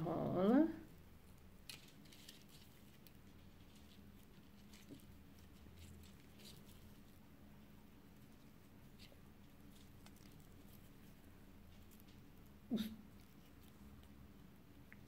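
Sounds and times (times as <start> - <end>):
low room hum: 0.0 - 15.0
twine rustling while wound: 0.9 - 14.9.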